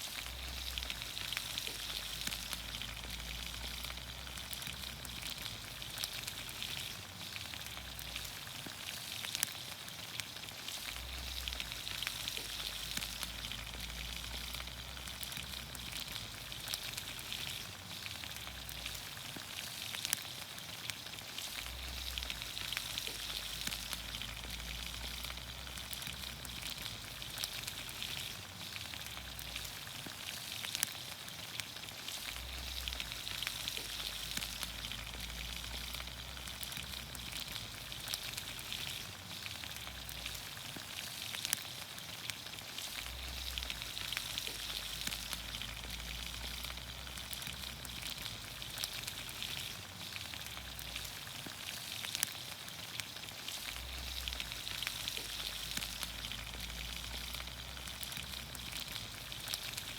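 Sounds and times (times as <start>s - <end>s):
vegetables sizzling in a pan: 0.0s - 59.9s.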